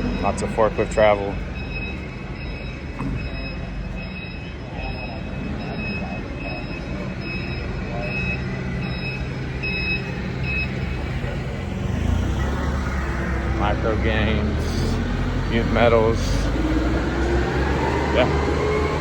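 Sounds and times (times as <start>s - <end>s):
engine humming: 0.0s - 19.0s
faint voices: 0.0s - 19.0s
reversing alarm beeping: 0.0s - 19.0s.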